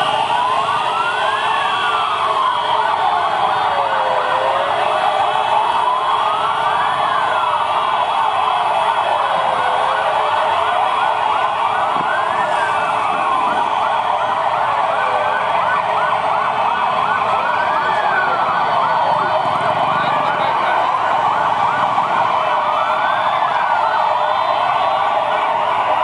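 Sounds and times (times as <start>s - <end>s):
rapid yelping sirens: 0.0s - 26.0s
slow wailing siren: 0.0s - 26.0s.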